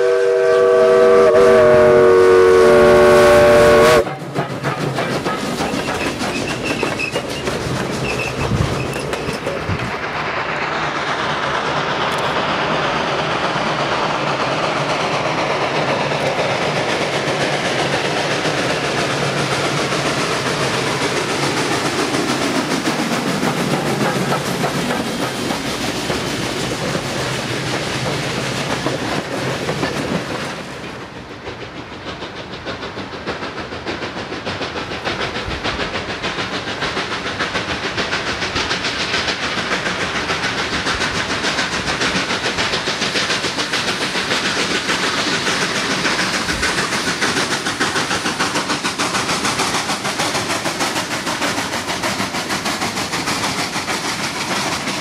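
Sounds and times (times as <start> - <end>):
train running on rails: 0.0 - 55.0.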